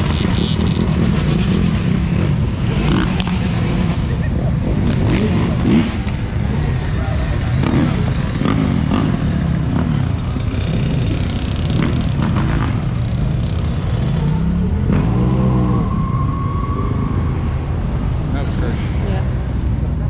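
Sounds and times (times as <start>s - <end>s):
loud engines revving: 0.0s - 20.0s.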